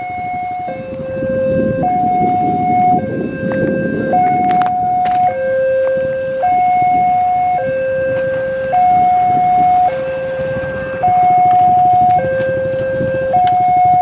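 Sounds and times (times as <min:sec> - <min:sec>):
two-tone crossing alarm: 0:00.0 - 0:14.0.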